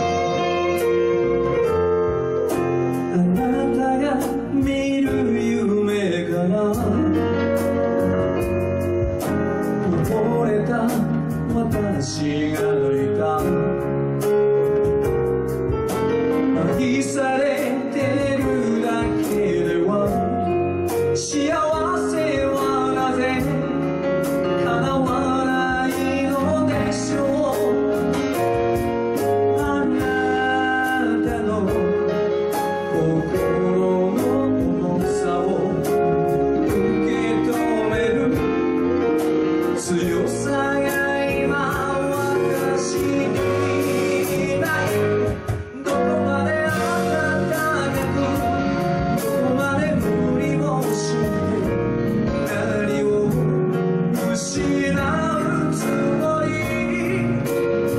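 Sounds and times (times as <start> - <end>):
man singing: 0.0 - 14.4, 15.9 - 57.9
pop band playing: 0.0 - 57.9.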